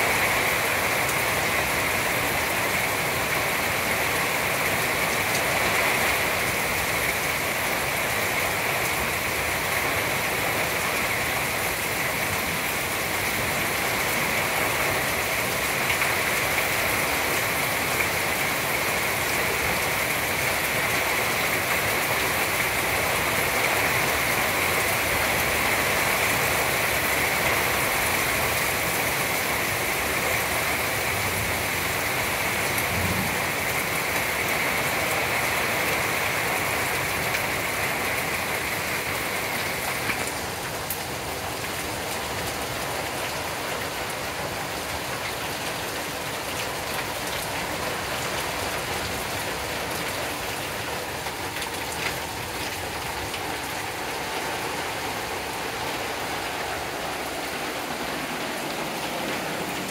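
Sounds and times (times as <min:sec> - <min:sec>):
heavy rain on trees and deck: 0:00.0 - 0:59.9.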